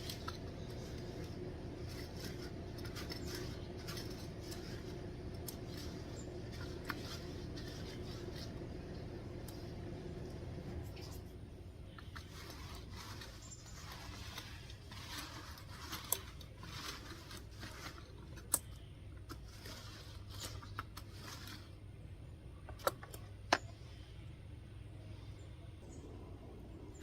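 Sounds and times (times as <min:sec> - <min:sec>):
roller swishing over concrete: 0:00.0 - 0:22.3.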